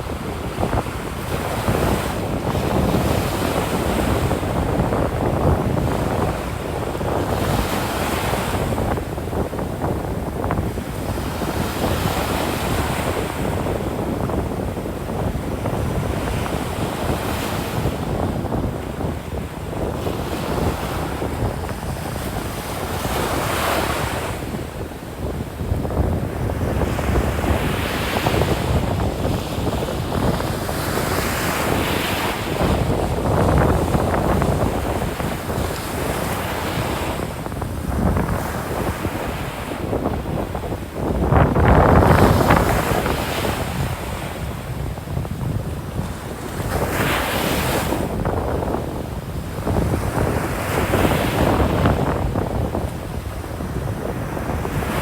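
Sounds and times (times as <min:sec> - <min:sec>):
surf breaking on a beach: 0:00.0 - 0:55.0
wind rumbling on microphone: 0:00.0 - 0:55.0.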